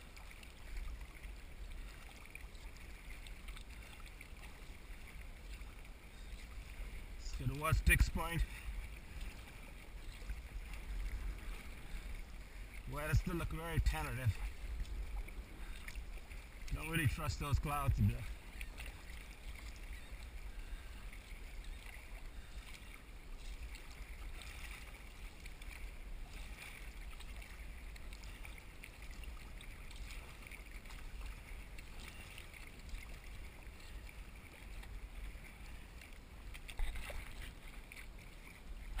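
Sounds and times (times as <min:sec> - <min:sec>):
kayak paddle strokes: 0:00.0 - 0:39.0
water lapping and splashing on hull: 0:00.0 - 0:39.0.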